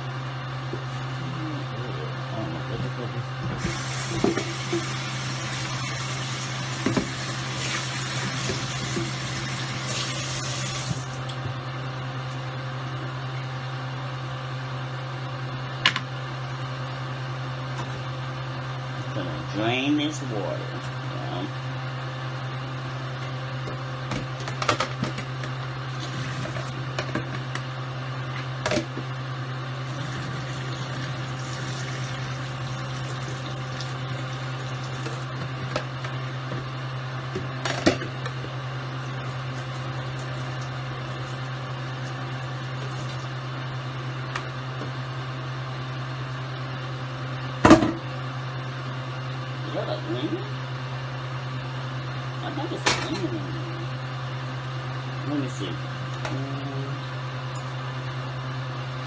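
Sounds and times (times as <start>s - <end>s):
appliance electrical hum: 0.0s - 59.0s.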